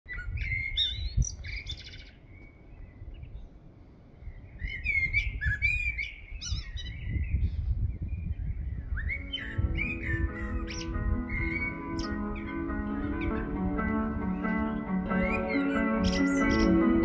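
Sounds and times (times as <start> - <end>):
small birds chirping and trilling: 0.1 - 17.0.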